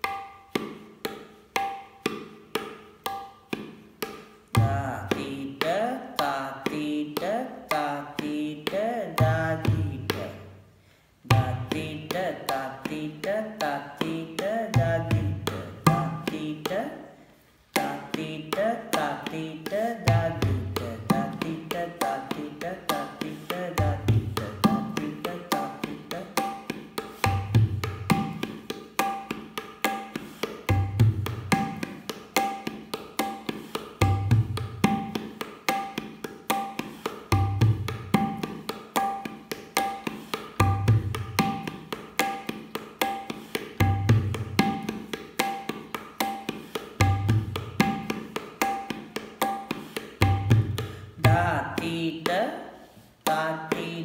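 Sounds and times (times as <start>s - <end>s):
tabla strokes ringing: 0.0s - 10.6s, 11.3s - 17.0s, 17.7s - 52.4s.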